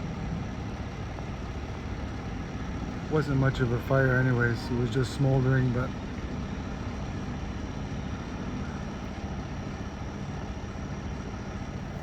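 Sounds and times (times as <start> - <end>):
heavy vehicle engines idling: 0.0 - 12.0.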